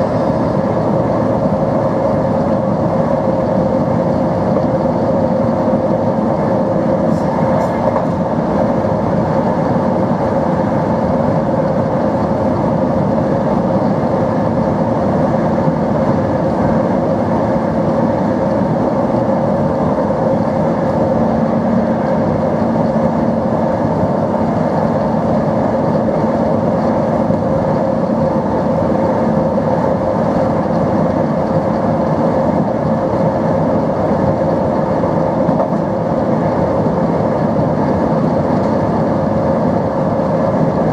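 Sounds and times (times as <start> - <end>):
electric train motor hum: 0.0 - 40.9.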